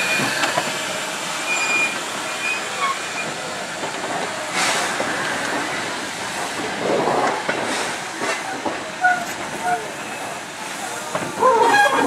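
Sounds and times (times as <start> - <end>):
wheels clattering over rail joints: 0.0 - 12.0.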